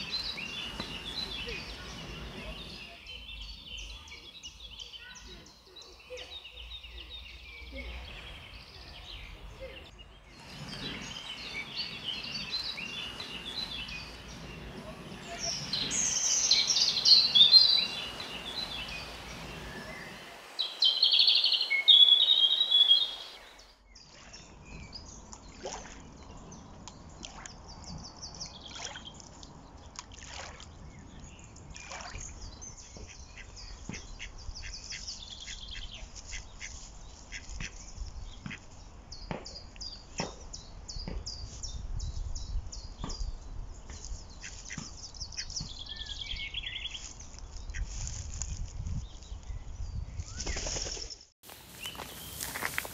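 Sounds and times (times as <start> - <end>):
birds singing: 0.0 - 30.0, 30.7 - 47.9, 48.9 - 52.9.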